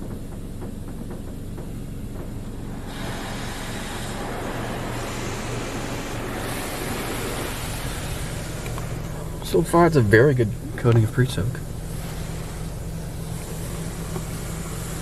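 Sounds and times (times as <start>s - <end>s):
low machine hum: 0.0s - 15.0s
spray hissing on car: 0.0s - 15.0s.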